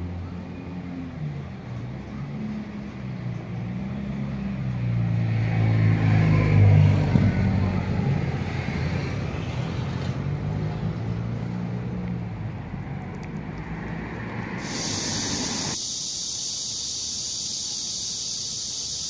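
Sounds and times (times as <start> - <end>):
vehicle engine passing by: 0.0 - 19.0.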